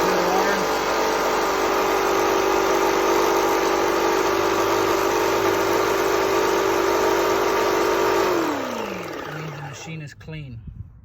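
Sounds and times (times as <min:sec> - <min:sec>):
paint sprayer pump humming: 0:00.0 - 0:09.9.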